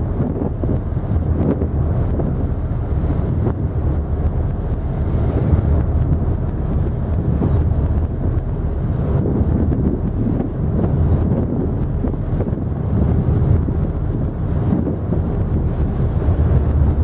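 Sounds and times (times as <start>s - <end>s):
ferry engine rumble: 0.0s - 17.0s
water wash of wake: 0.0s - 17.0s
wind buffeting microphone: 0.0s - 17.0s.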